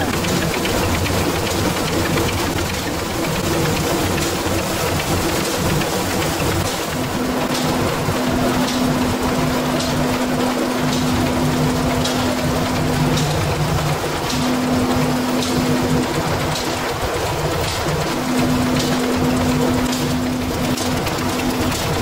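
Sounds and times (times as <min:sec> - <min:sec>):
machine chain conveyor clattering: 0:00.0 - 0:22.0
steady hum: 0:00.0 - 0:22.0.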